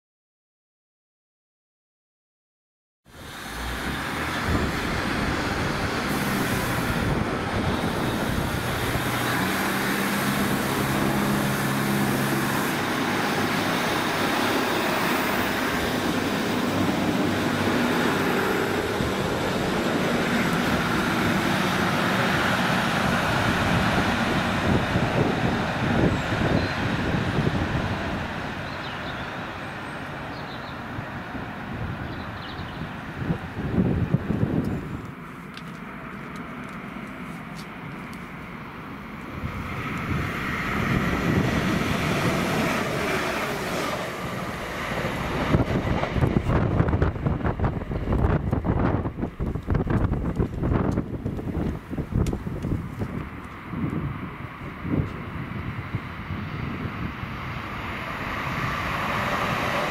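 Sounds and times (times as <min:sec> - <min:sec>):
train engine and rail rumble: 0:03.1 - 0:59.9.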